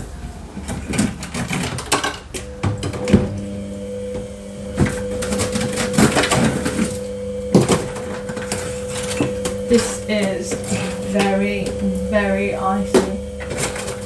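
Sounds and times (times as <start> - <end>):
freezer hum: 0.0 - 14.0.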